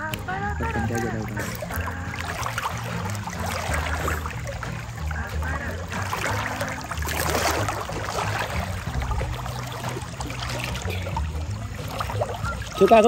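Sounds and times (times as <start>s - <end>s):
low uneven rumble: 0.0s - 13.0s
river water splashing: 0.0s - 13.0s.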